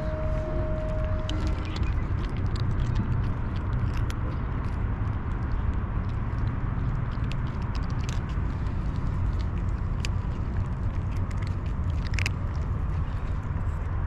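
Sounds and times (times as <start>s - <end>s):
cats crunching dry kibble: 0.0s - 14.0s
steady low rumble: 0.0s - 14.0s.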